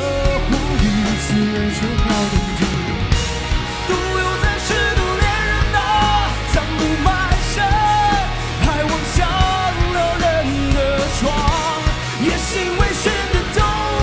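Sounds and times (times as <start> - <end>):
person singing: 0.0 - 3.1, 3.8 - 14.0
rock band playing: 0.0 - 14.0.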